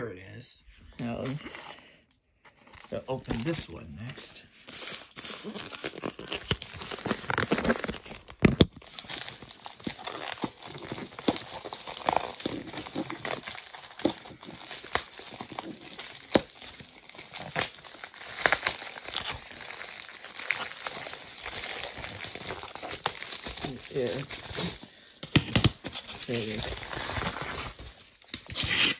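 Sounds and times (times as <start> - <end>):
package crinkling and tearing: 1.0 - 1.8, 2.5 - 28.9.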